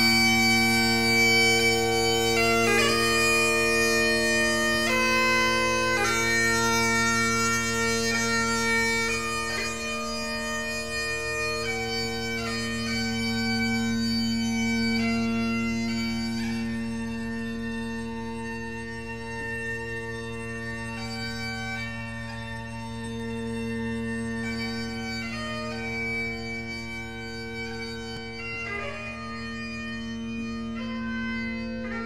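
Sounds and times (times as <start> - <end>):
bagpipes playing slow melody: 0.0 - 32.0.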